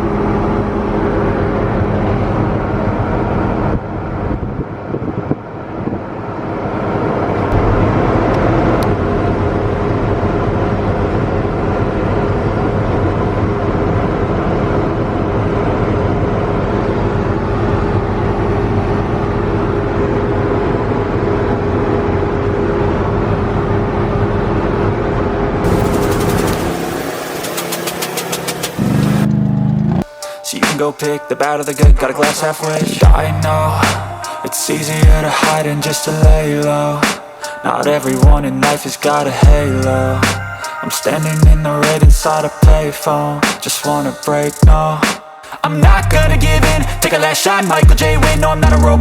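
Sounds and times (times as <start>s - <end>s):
heavy machinery engine droning: 0.0s - 45.0s, 45.7s - 49.0s.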